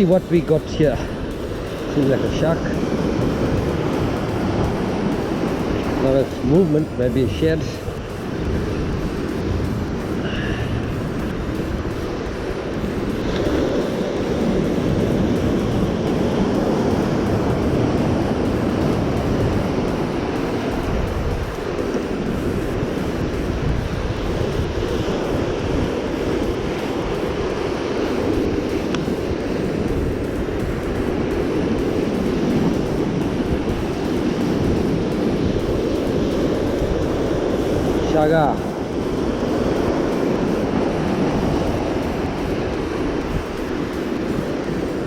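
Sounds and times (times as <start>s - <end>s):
sea surf washing in: 0.0s - 45.0s
wind buffeting microphone: 0.0s - 45.0s.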